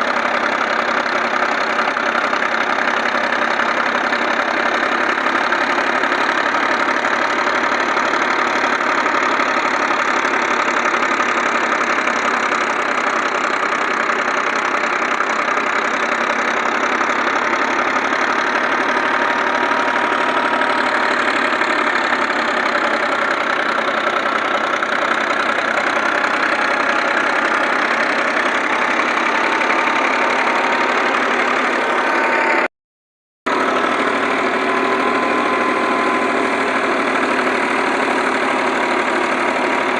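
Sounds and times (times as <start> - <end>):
tractor engine running: 0.0 - 32.7, 33.5 - 39.9
wheat thresher running: 0.0 - 32.7, 33.5 - 39.9.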